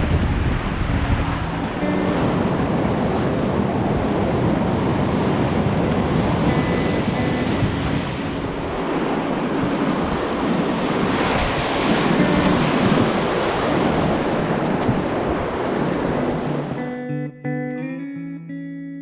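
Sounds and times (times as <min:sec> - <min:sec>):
acoustic guitar music: 0:00.0 - 0:10.2, 0:11.3 - 0:19.0
wind on microphone: 0:00.0 - 0:16.8
river water rushing: 0:00.0 - 0:16.9.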